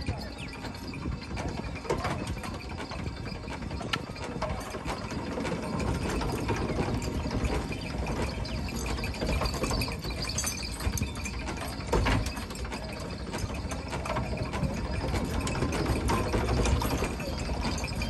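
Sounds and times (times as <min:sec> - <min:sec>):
wooden gears clattering: 0:00.3 - 0:18.0.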